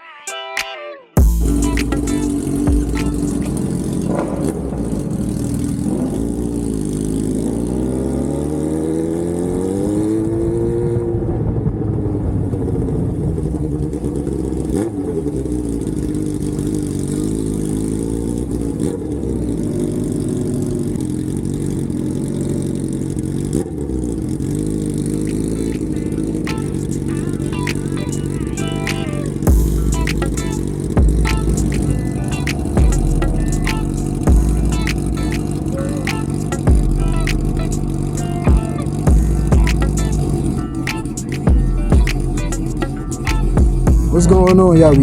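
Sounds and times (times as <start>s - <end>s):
motorcycle engine revving: 1.2s - 45.0s.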